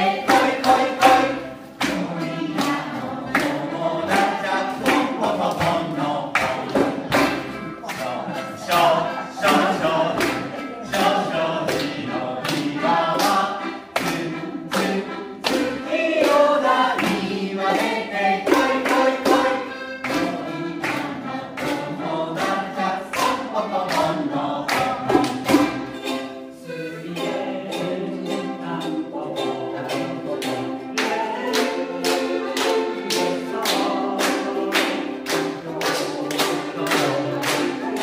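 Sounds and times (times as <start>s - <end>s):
group of voices singing: 0.0s - 38.0s
strummed string instrument: 0.0s - 38.0s.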